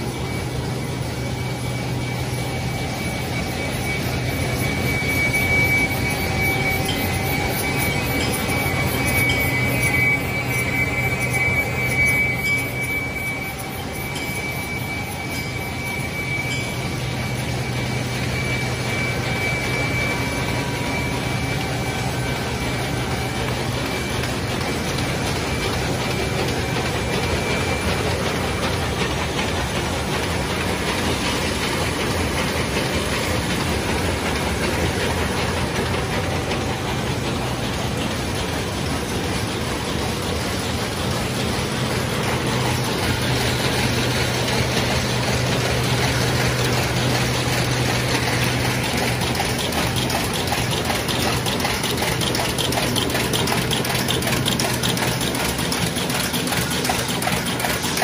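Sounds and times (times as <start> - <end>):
low machine hum: 0.0 - 58.0
machine clattering: 0.2 - 58.0.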